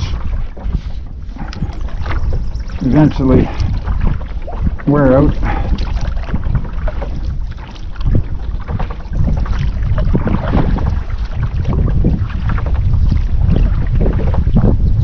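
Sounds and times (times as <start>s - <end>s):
paddle splashes and knocks: 0.0s - 15.0s
wind noise on microphone: 0.0s - 15.0s.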